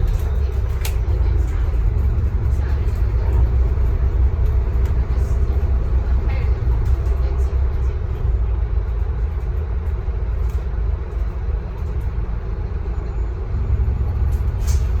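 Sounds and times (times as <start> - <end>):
bus diesel engine rumbling: 0.0 - 15.0
road noise: 0.0 - 15.0.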